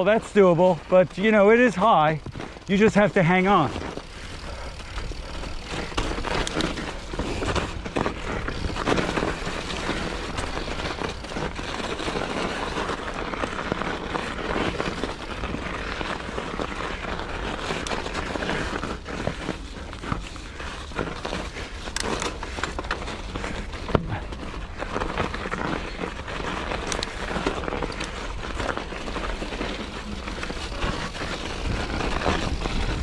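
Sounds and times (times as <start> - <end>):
bike clicking and rattling: 0.0 - 33.0
bike tyres on snow and mud: 0.0 - 33.0.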